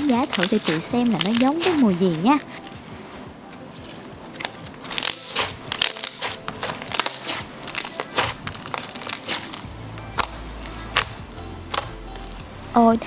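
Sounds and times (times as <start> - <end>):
slime crackling when squeezed: 0.0 - 2.4, 4.4 - 13.0.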